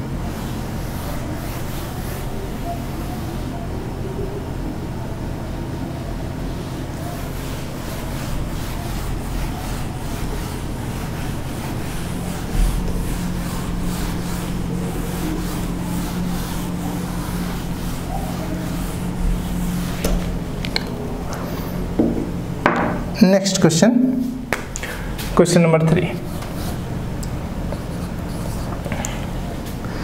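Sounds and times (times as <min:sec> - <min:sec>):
duster wiping whiteboard: 0:00.0 - 0:04.2, 0:06.2 - 0:22.2, 0:25.1 - 0:30.0.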